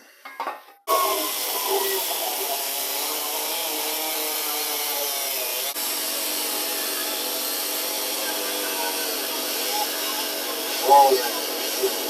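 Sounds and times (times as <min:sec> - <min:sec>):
power tool cutting sheet steel: 0:00.9 - 0:12.0.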